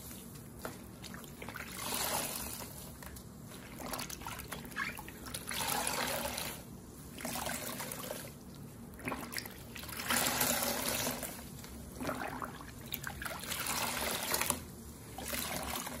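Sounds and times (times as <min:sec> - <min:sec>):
water gushing and trickling: 0:00.0 - 0:16.0
sponges squeezed in water: 0:00.3 - 0:16.0.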